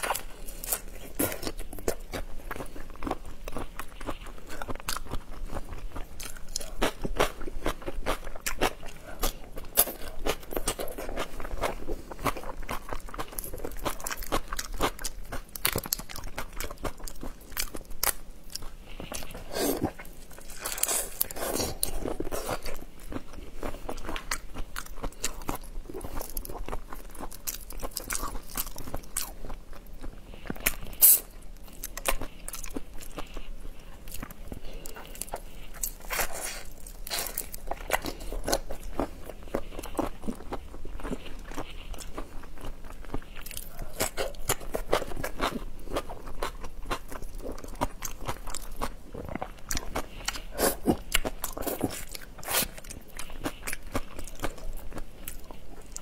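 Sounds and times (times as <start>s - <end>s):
mouth chewing and crunching: 0.0s - 56.0s.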